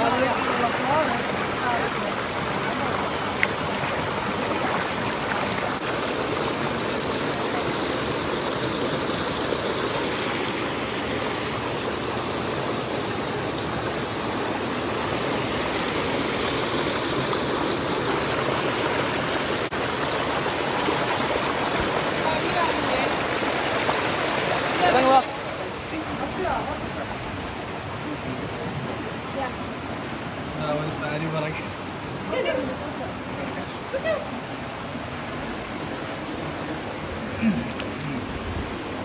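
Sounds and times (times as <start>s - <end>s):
stream flowing over rocks: 0.0s - 39.0s.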